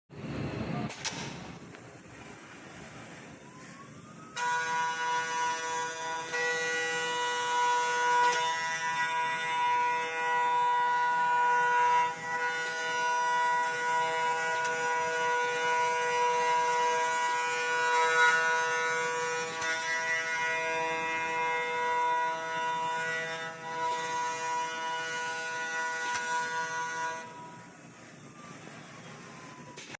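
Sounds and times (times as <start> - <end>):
milling cutter high whine: 3.1 - 29.9.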